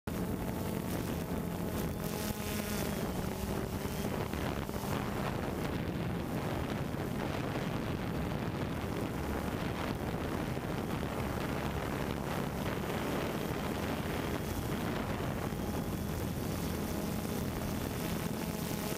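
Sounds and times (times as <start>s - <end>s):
drone propellers humming: 0.1s - 18.9s
wind noise on microphone: 0.1s - 18.9s.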